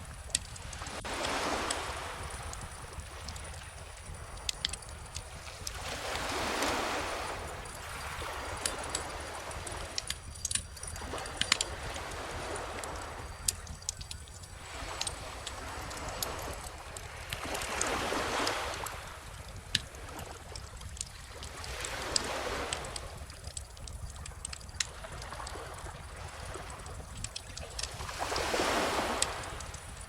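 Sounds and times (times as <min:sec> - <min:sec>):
bonfire crackling: 0:00.0 - 0:30.0
small ocean waves washing ashore: 0:00.0 - 0:30.0.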